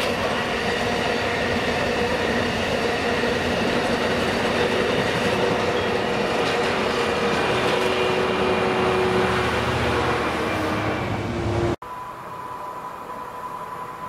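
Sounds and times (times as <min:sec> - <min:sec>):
diesel locomotive engine: 0:00.0 - 0:14.0
train wheels on rails: 0:00.0 - 0:14.0.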